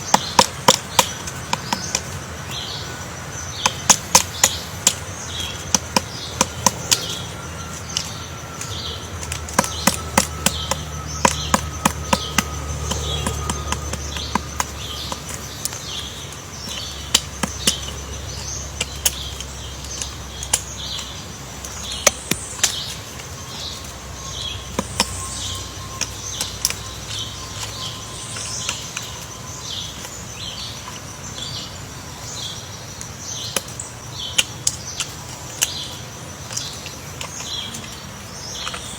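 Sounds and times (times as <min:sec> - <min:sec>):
bird chirping: 0:00.0 - 0:38.9
woodpecker pecking wood: 0:00.0 - 0:38.9.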